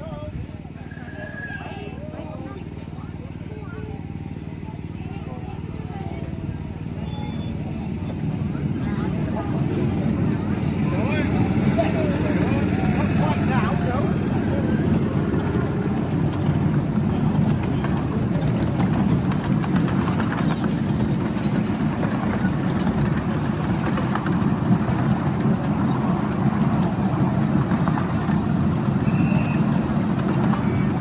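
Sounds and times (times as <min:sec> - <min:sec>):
miniature train running: 0:00.1 - 0:31.0.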